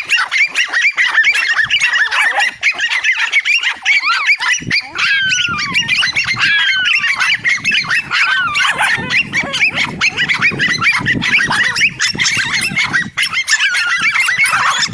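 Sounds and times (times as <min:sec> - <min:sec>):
dogs barking and yelping: 0:00.0 - 0:14.9.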